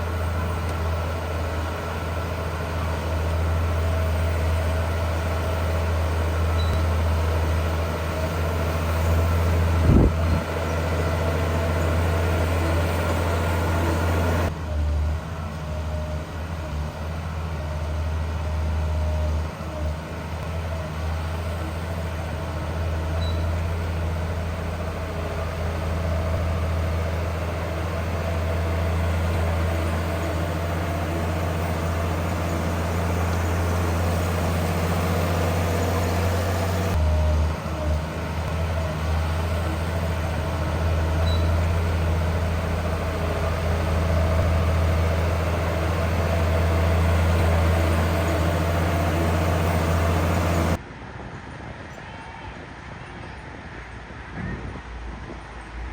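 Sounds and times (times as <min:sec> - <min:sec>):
heavy diesel engine droning: 0:00.0 - 0:51.0.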